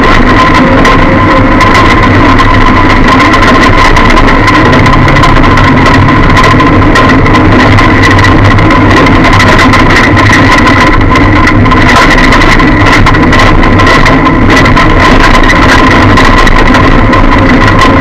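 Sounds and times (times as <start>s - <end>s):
car engine running: 0.0s - 18.0s
constant rattling: 0.0s - 18.0s
high whine: 0.0s - 18.0s.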